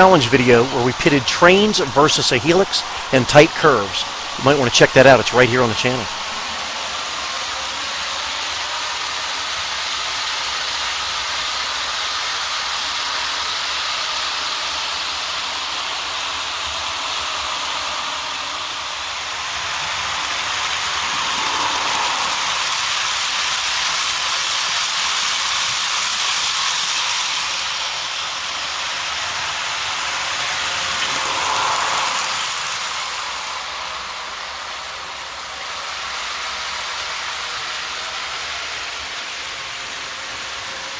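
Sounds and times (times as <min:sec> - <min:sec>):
model trains whirring and rattling: 0:00.0 - 0:40.9.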